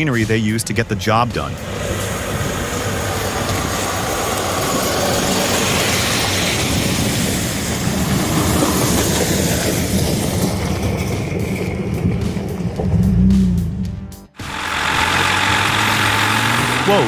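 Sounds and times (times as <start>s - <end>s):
heavy machinery engine hum: 1.5s - 13.7s, 14.4s - 17.0s.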